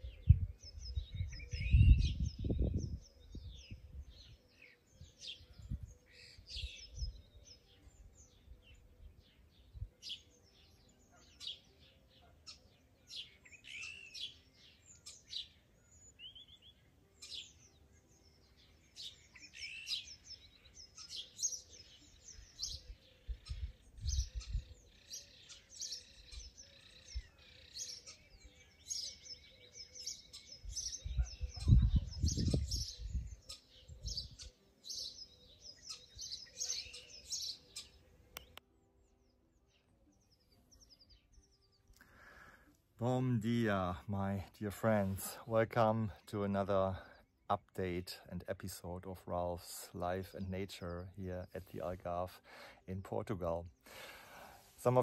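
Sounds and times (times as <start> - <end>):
songbirds singing and chirping: 0.0 - 55.0.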